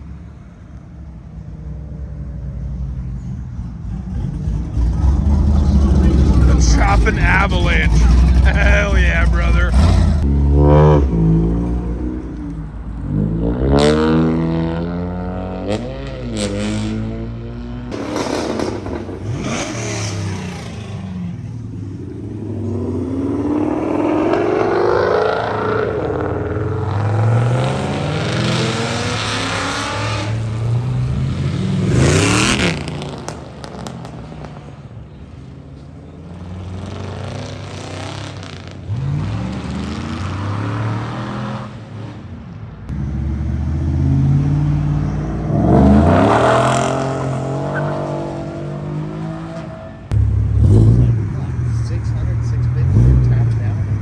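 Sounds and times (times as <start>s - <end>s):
car engines revving: 2.4s - 54.0s.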